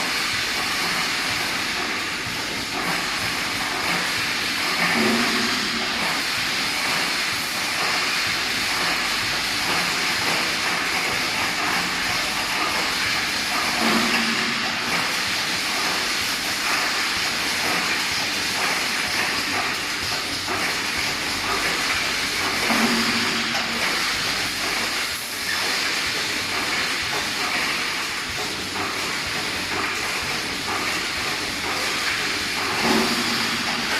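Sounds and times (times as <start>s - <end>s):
machine hum: 0.0s - 33.9s
welding machine hiss and crackle: 0.0s - 33.9s
machine working stroke: 0.1s - 33.9s.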